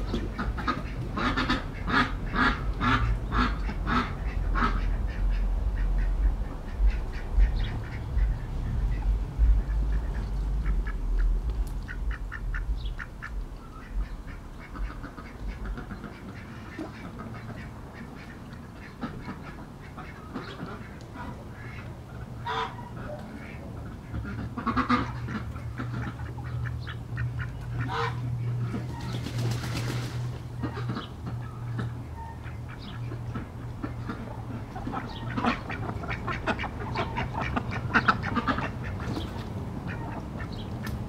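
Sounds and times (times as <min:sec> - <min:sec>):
goose honking: 0:00.0 - 0:11.3, 0:11.9 - 0:29.1, 0:30.6 - 0:39.2, 0:39.8 - 0:40.6
ducks quacking: 0:00.0 - 0:41.0
low city drone: 0:00.0 - 0:41.0.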